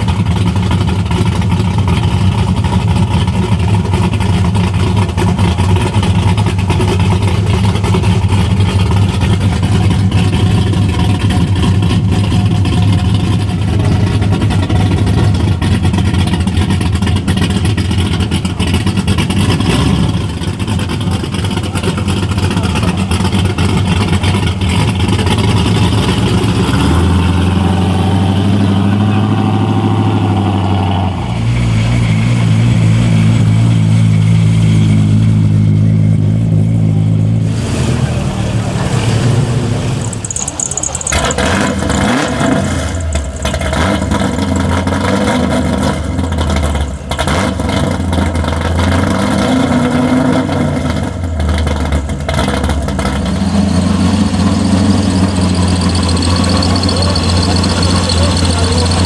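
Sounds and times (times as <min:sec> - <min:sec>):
car engine exhaust rumbling: 0:00.0 - 0:59.0.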